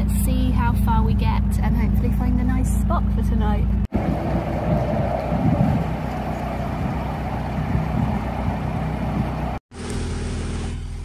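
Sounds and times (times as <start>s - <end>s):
diesel boat engine running: 0.0s - 11.0s.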